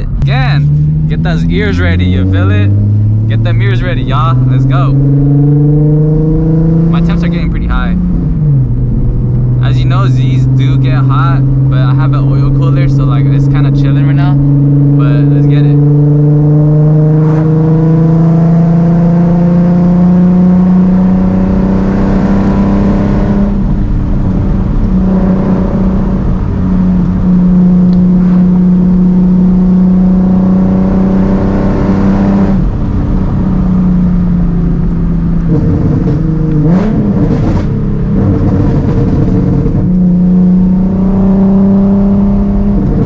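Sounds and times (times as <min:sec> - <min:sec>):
car exhaust at high revs: 0:00.0 - 0:43.0.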